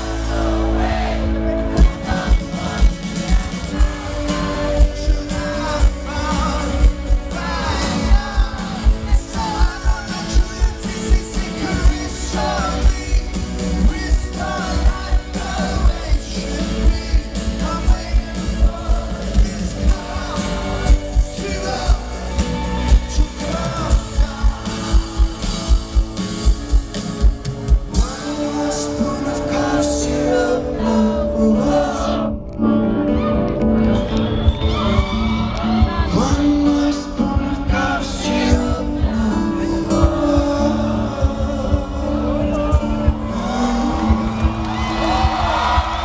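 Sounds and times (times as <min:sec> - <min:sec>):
acoustic rock band playing: 0:00.0 - 0:46.0
lead singer singing: 0:00.0 - 0:46.0
low drum beat: 0:01.7 - 0:28.7, 0:35.0 - 0:46.0.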